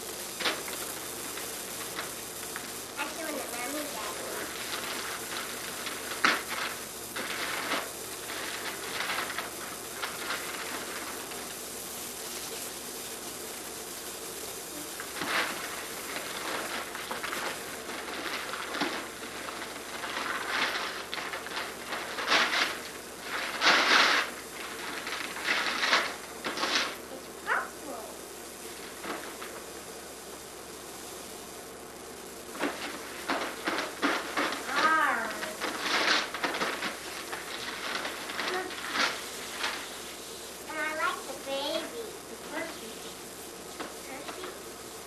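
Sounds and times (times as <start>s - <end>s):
wrapping paper rustling and tearing: 0.0s - 12.5s, 14.7s - 28.0s, 28.6s - 29.9s, 32.4s - 44.7s
steady hiss: 0.0s - 45.0s.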